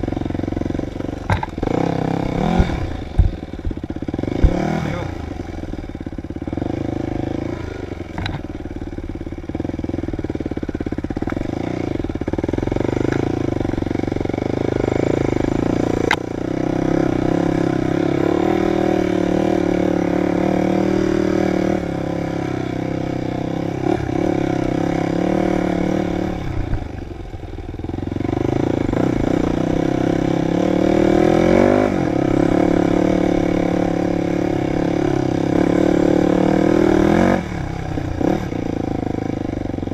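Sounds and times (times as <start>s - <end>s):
dirt bike engine revving: 0.0s - 27.0s, 27.8s - 39.9s.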